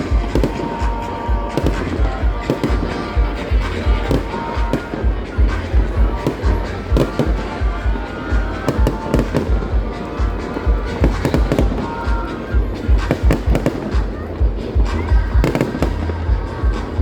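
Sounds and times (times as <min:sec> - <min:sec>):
fireworks booming: 0:00.0 - 0:17.0
fireworks crackling: 0:00.0 - 0:17.0
music: 0:00.0 - 0:17.0
voices: 0:00.0 - 0:17.0.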